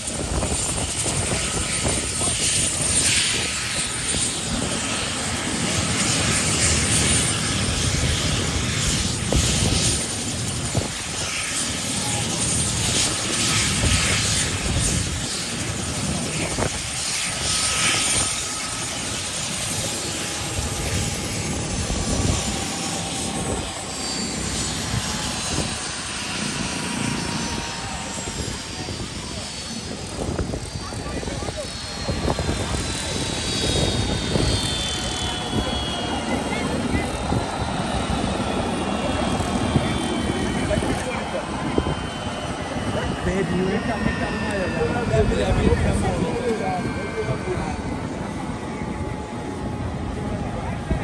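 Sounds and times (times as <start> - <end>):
helicopter engines and rotor: 0.0 - 51.0
high turbine whine: 0.0 - 51.0.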